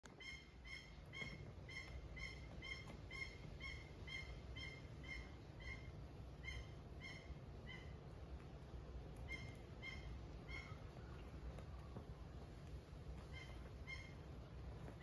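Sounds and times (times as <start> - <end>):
cockatiel calling: 0.1 - 15.0.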